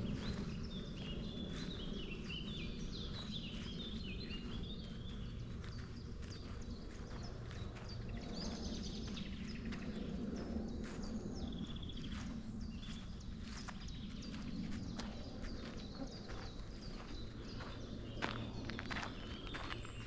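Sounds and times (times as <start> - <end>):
footsteps on forest trail: 0.0 - 20.0
songbird singing: 0.0 - 20.0.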